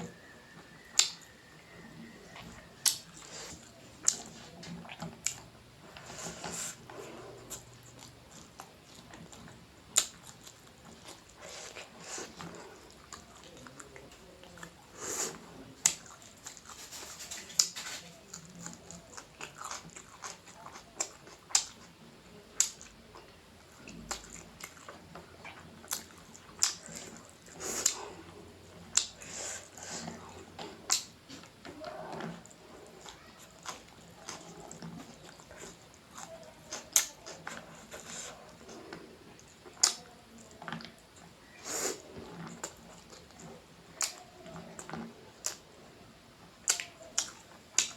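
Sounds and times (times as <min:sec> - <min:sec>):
wet chewing and lip-smacking: 0:00.0 - 0:22.0, 0:22.6 - 0:45.8, 0:46.4 - 0:47.9.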